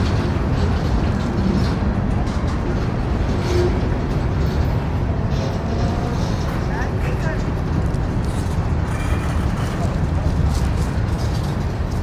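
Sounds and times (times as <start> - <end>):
train rumbling by: 0.0 - 12.0.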